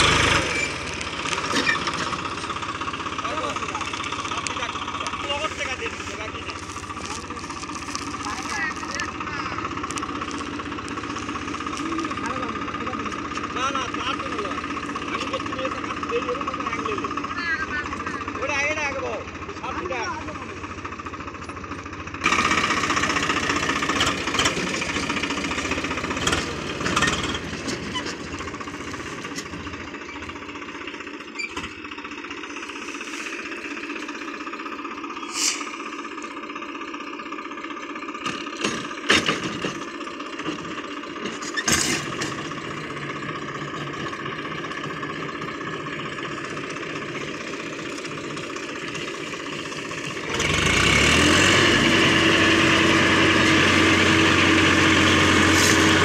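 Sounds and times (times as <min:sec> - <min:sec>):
rotary tiller churning soil: 0:00.0 - 0:56.0
tractor diesel engine running: 0:00.0 - 0:56.0.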